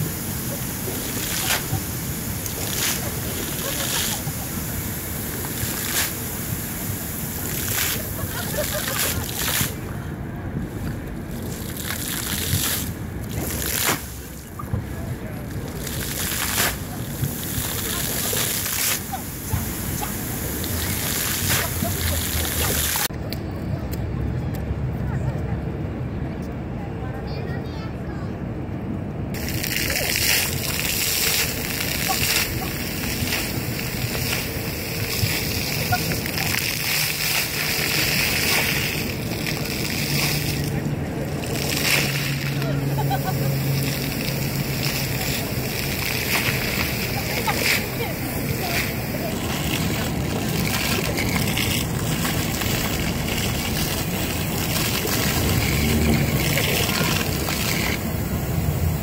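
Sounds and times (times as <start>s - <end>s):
fountain water splashing on pavement: 0.0s - 24.6s, 29.3s - 59.0s
low city rumble: 0.0s - 59.0s.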